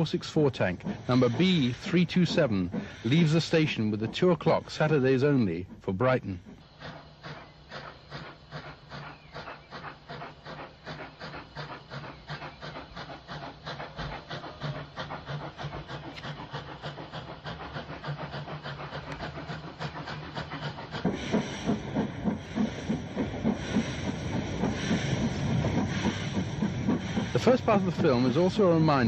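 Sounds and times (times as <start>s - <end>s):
rail clatter: 0.0s - 29.0s
steam hiss: 0.0s - 29.0s
steam locomotive exhaust beats: 0.0s - 29.0s.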